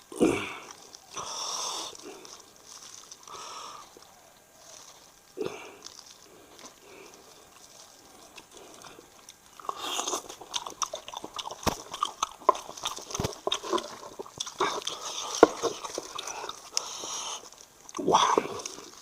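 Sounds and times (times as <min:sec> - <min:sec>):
close-miked eating and chewing: 0:00.0 - 0:19.0.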